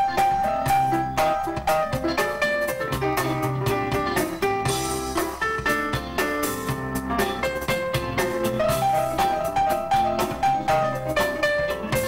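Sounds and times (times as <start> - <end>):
drum kit beat: 0.0 - 12.0
keyboard: 0.0 - 12.0.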